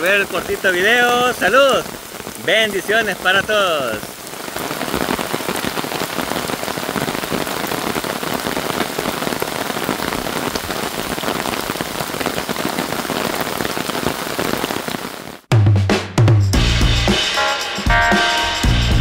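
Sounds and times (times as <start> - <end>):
rain falling steadily: 0.0 - 15.5.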